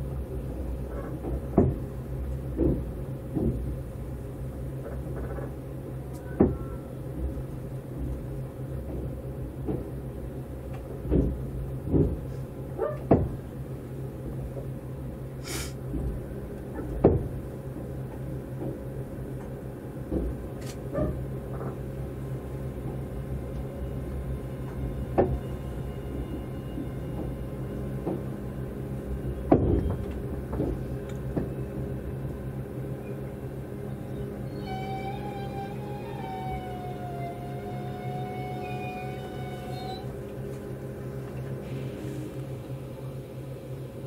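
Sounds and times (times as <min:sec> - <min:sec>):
train interior hum: 0:00.0 - 0:44.0.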